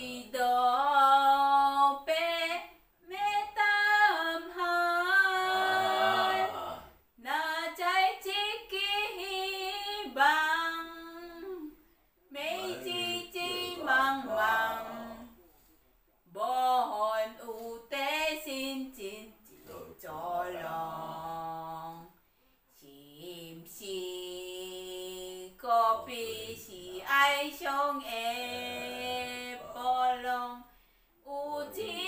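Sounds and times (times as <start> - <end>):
woman singing unaccompanied: 0.0 - 6.6, 7.2 - 15.3, 16.3 - 22.1, 22.8 - 32.0.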